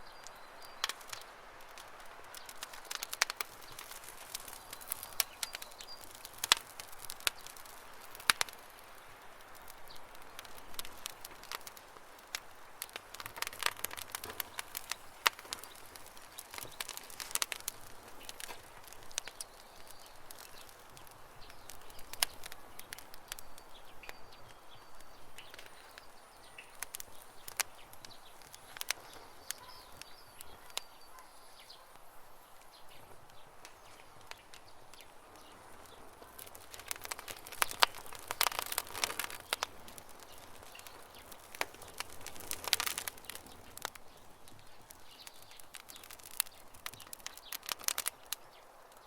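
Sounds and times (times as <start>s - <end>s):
birds chirping faintly: 0.0s - 49.0s
campfire crackling and popping: 0.0s - 49.0s.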